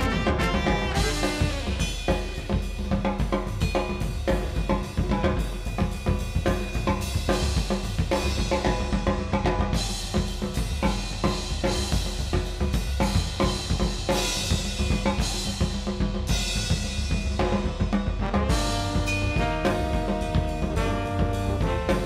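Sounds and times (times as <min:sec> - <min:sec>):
drum kit playing: 0:00.0 - 0:22.0.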